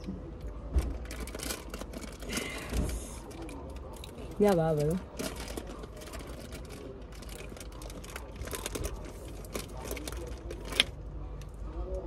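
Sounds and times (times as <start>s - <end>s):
plastic packet crinkling: 1.0s - 11.0s.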